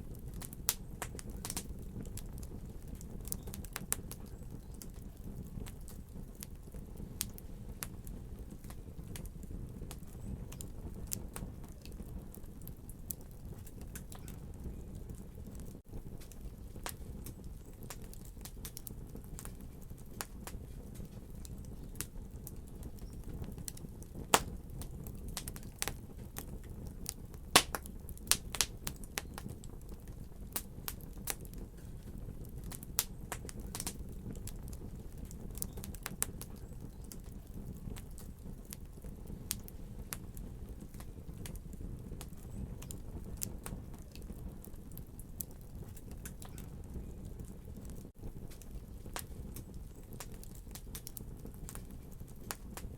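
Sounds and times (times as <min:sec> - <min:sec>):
low rumble of flames: 0:00.0 - 0:52.9
wood fire crackling: 0:00.0 - 0:52.9.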